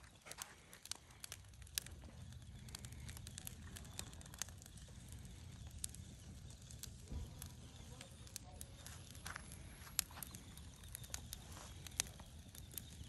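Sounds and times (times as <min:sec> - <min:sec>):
campfire crackling: 0:00.0 - 0:13.0
sharp pops of burning logs: 0:00.0 - 0:13.0.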